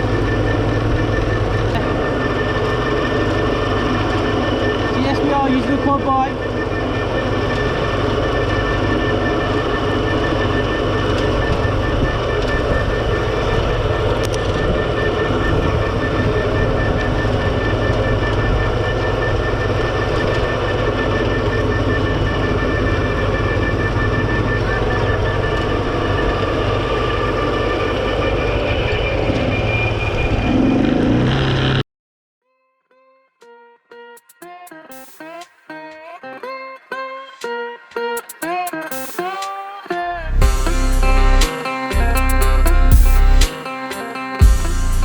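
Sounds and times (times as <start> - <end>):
high whine: 0.0 - 31.6, 37.4 - 45.0
quad bike engine droning: 0.0 - 31.8, 40.0 - 45.0.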